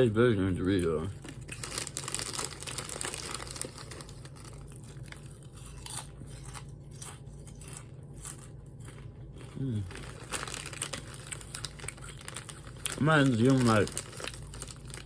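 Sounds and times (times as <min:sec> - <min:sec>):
potato chips crunching: 0:00.7 - 0:15.0.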